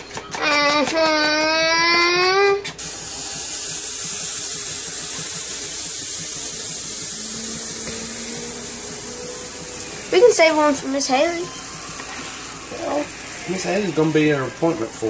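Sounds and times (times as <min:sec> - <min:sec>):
batter sizzling in a skillet: 0:02.8 - 0:15.0.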